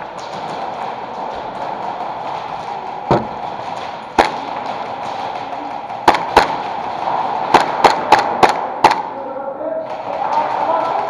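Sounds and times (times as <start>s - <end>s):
airsoft guns firing: 0.0s - 9.2s
steady background noise: 0.0s - 11.0s.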